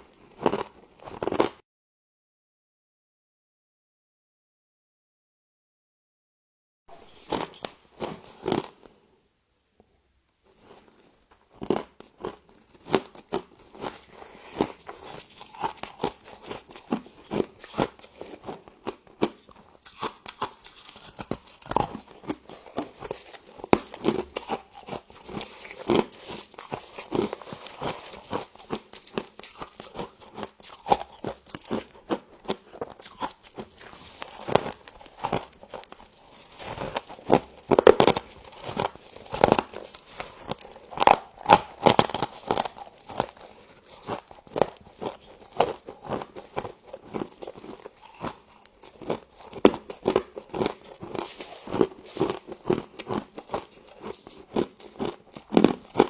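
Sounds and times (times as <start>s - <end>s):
chewing crunchy frost: 0.0s - 1.6s, 6.9s - 9.0s, 10.5s - 56.0s.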